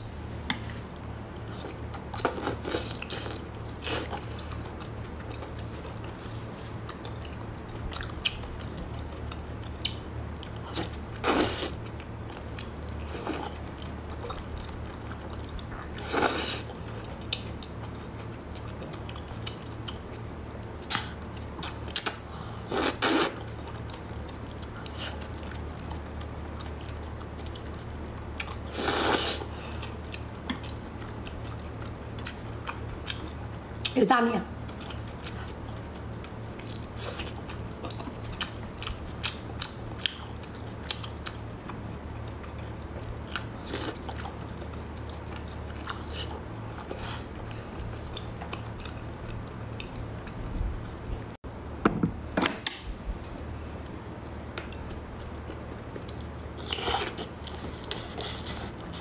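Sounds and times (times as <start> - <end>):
steady low hum: 0.0 - 59.0
wet chewing sounds: 0.5 - 51.4, 53.8 - 59.0.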